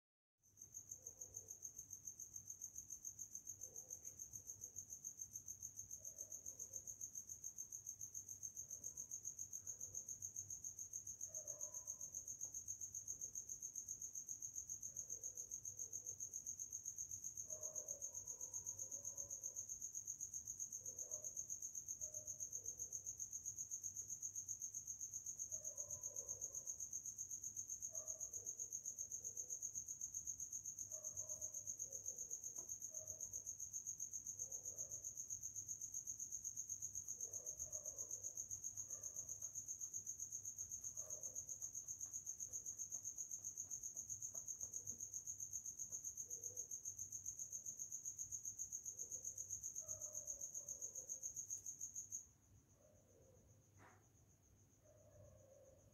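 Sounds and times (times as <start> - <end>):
insect chirping trill: 0.5 - 55.9.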